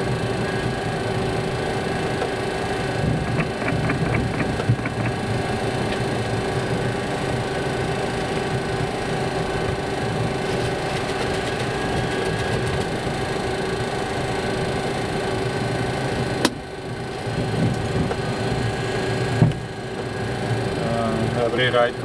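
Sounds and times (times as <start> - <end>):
aircraft cockpit engine hum: 0.0 - 22.0.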